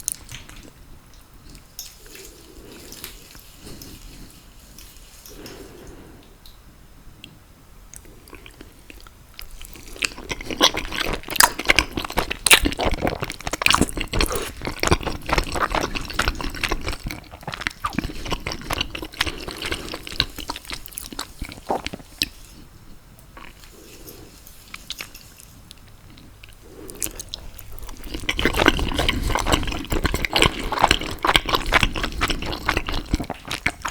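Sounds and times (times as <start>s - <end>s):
wet chewing and slurping: 1.5s - 6.0s, 7.9s - 33.9s.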